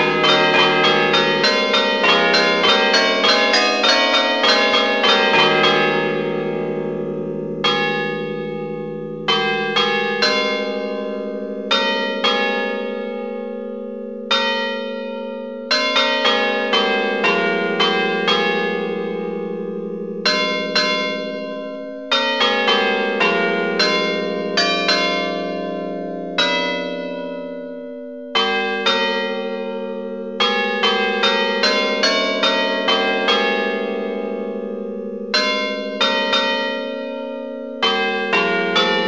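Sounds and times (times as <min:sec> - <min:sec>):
church bells ringing: 0:00.0 - 0:39.0.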